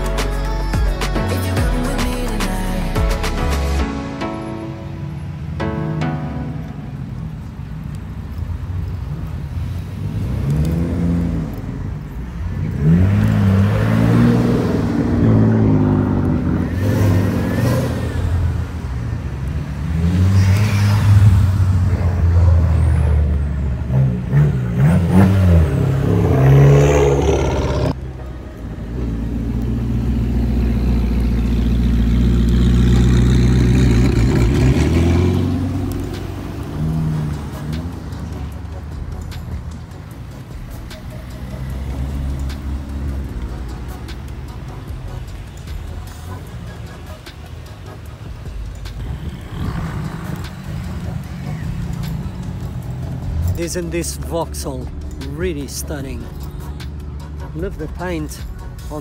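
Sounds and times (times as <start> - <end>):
car engines revving: 1.5 - 59.0.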